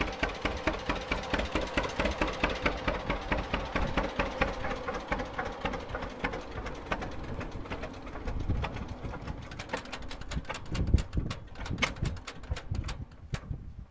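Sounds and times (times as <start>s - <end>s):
tractor engine idling: 0.0s - 13.4s.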